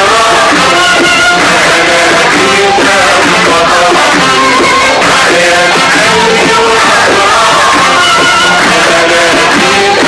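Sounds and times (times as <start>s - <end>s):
song with instrumental accompaniment: 0.0s - 10.0s.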